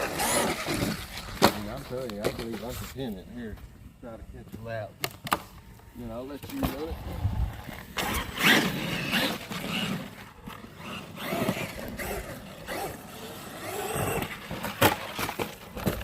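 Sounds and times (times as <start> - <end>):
tyres working over ground: 0.0 - 3.8, 6.1 - 16.0.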